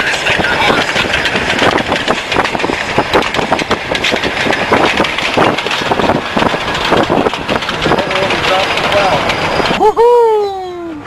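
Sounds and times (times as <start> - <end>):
snow plow train rushing noise: 0.0 - 11.0
train engine: 0.0 - 11.0.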